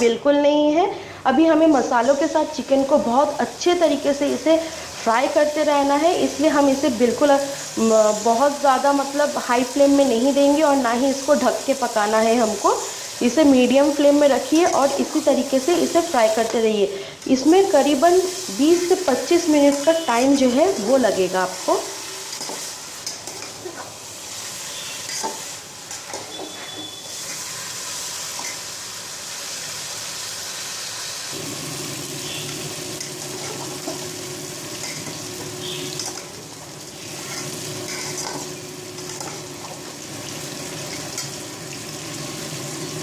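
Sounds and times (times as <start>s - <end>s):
food sizzling in oil: 1.5s - 43.0s.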